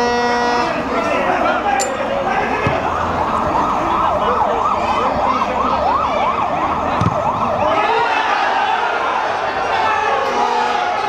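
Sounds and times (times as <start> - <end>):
siren yelping: 1.4 - 11.0.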